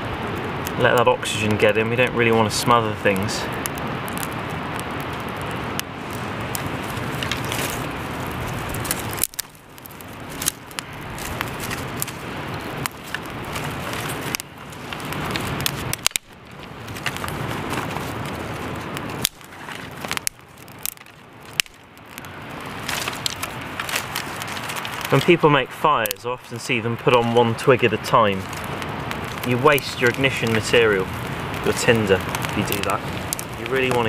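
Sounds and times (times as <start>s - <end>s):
fire crackling and popping: 0.0s - 34.0s
sticks rustling: 5.8s - 34.0s.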